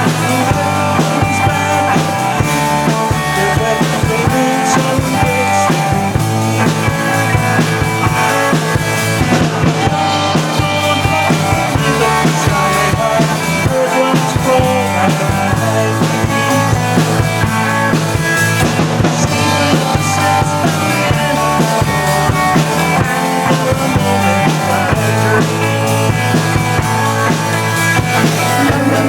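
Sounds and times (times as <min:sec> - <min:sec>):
bass guitar: 0:00.0 - 0:29.0
drum kit steady beat: 0:00.0 - 0:29.0
jangly electric guitars: 0:00.0 - 0:29.0.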